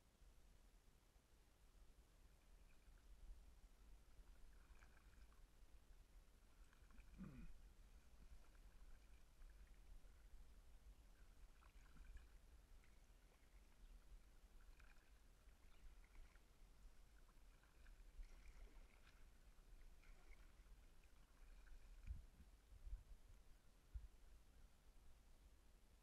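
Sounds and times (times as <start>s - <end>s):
faint low rumble: 0.0s - 26.0s
kayak paddling: 2.2s - 24.5s.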